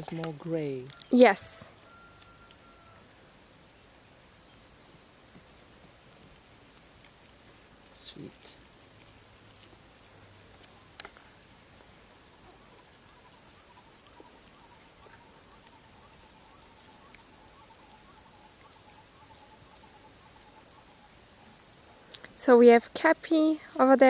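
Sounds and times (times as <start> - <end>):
buzzy insect chirps: 0.0 - 24.0
lower repeated insect call: 0.0 - 24.0.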